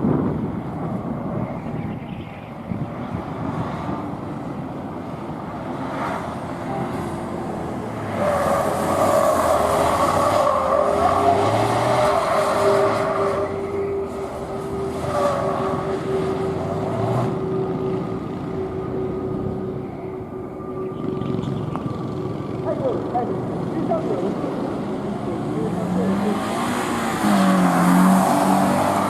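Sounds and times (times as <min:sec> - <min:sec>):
car engine revving: 0:05.4 - 0:29.0.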